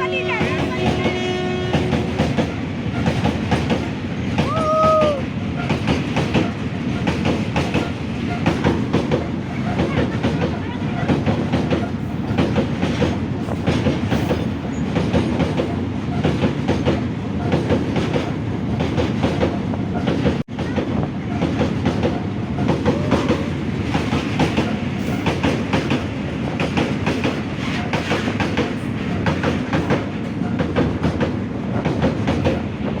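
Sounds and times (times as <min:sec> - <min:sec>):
train wheels clattering on rails: 0:00.2 - 0:33.0.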